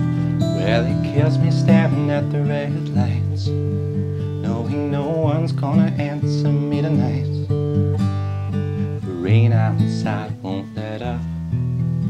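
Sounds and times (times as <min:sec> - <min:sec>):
pedal steel guitar: 0:00.0 - 0:12.0
strummed acoustic guitar: 0:00.0 - 0:12.0.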